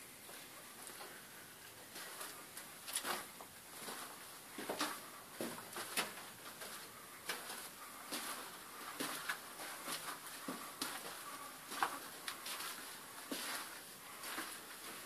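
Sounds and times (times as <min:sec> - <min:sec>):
footsteps crunching on rock: 0:02.0 - 0:15.0.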